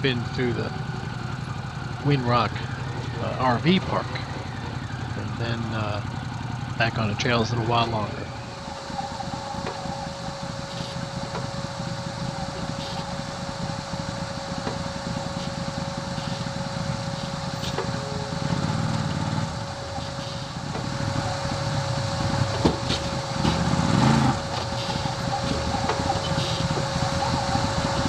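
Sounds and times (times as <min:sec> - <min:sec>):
utility vehicle engine running: 0:00.0 - 0:28.0.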